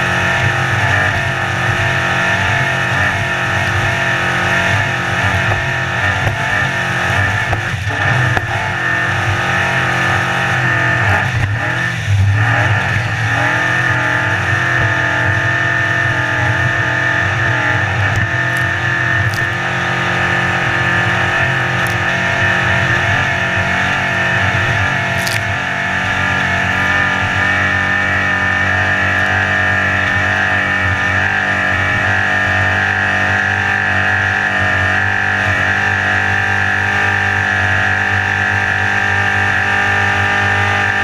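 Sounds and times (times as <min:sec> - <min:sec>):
powerboat engine running hard: 0:00.0 - 0:41.0.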